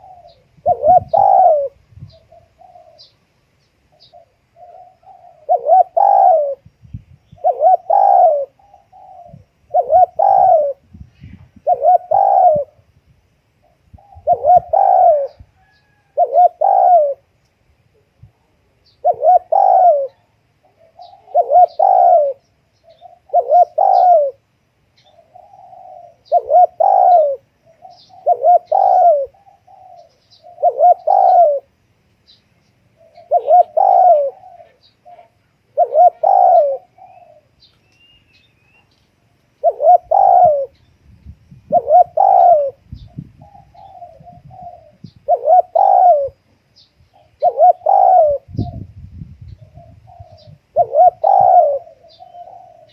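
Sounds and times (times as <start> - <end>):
dove cooing: 0.0 - 3.2, 3.9 - 11.0, 11.6 - 12.9, 13.6 - 17.3, 18.8 - 31.8, 32.9 - 37.7, 39.6 - 40.9, 41.7 - 46.5, 47.1 - 52.9.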